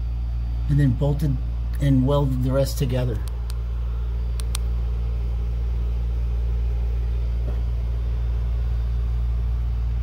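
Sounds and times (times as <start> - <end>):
low rumble with hum: 0.0 - 10.0.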